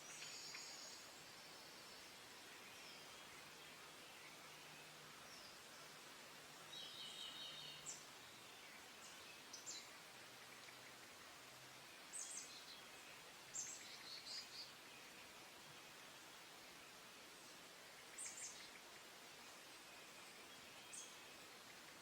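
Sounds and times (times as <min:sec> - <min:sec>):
songbirds chirping: 0:00.0 - 0:22.0
steady background hiss: 0:00.0 - 0:22.0.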